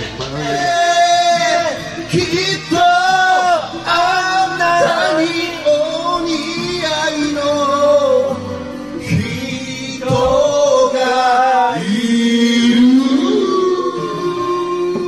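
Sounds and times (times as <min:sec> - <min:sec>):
karaoke backing music: 0:00.0 - 0:15.0
man singing into a microphone: 0:00.0 - 0:15.0.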